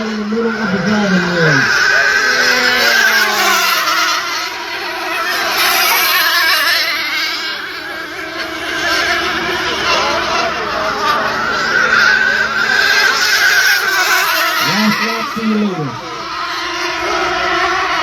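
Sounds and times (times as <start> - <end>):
rc boat engines buzzing: 0.0 - 18.0.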